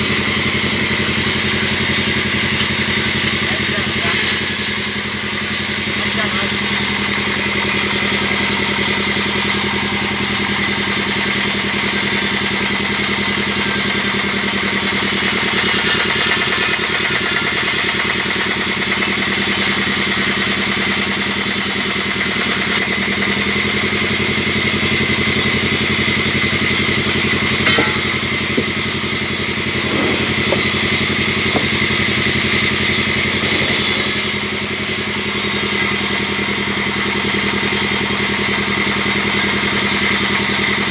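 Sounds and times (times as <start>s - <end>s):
band sawmill drone: 0.0s - 40.9s.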